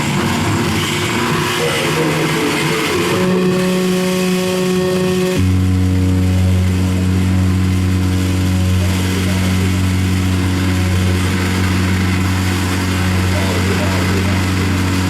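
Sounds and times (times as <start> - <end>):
loud low drone: 0.0 - 15.0
held tones: 0.5 - 15.0.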